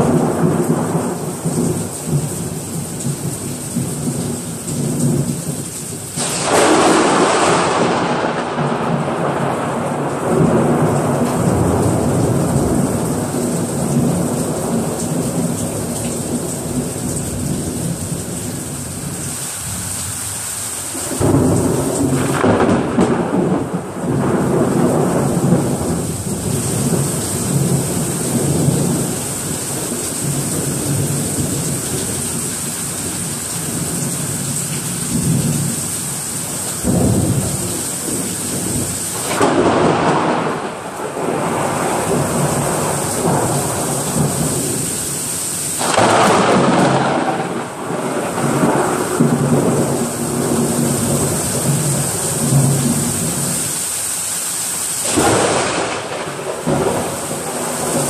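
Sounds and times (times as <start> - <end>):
thunder rumbling: 0.0 - 19.2, 20.9 - 53.5, 55.0 - 58.0
heavy rain: 0.0 - 58.0.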